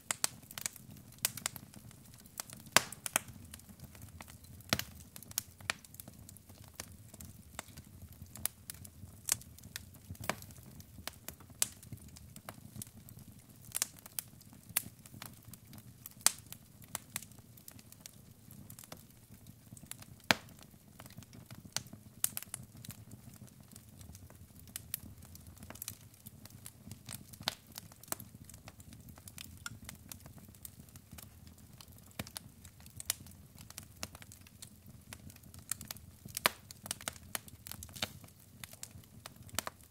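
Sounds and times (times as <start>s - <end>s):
low steady background noise: 0.0s - 39.9s
wood fire crackling and popping: 0.0s - 39.9s.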